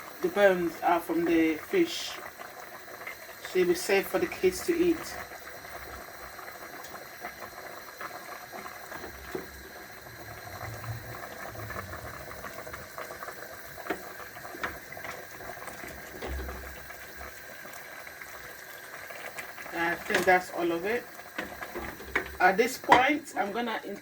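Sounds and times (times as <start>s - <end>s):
pot boiling: 0.0s - 24.0s.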